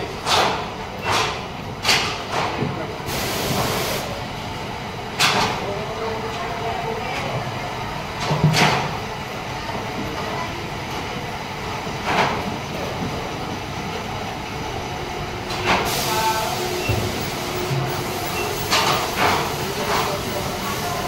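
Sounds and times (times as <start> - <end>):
factory machinery hum: 0.0 - 21.0.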